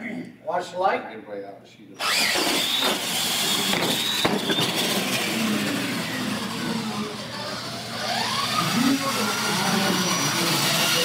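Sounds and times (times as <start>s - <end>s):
electric motors whining: 2.0s - 11.0s
toy truck tyres running on floor: 2.0s - 11.0s.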